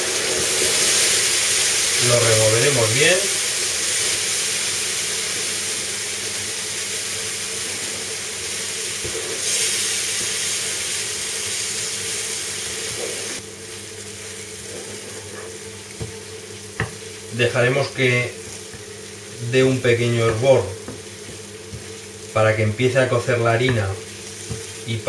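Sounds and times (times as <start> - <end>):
wine sizzling in a frying pan: 0.0 - 25.0.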